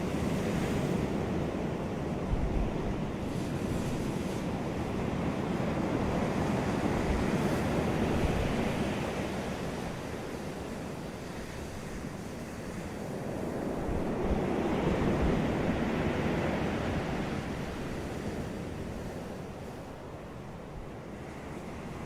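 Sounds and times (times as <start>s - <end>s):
low wind rumble: 0.0s - 22.0s
waves breaking on beach: 0.0s - 22.0s.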